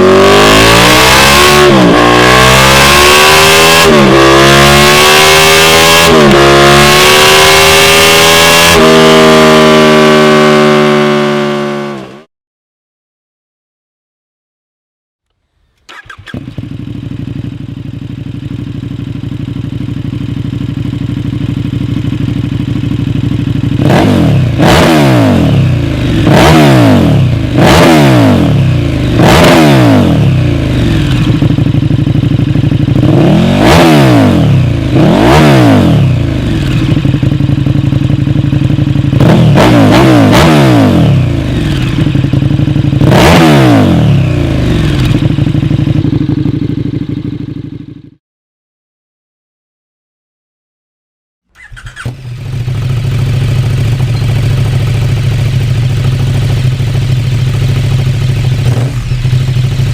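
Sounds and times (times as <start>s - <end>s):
motorcycle engine idling and revving: 0.0s - 12.3s, 15.5s - 48.2s, 51.5s - 59.9s.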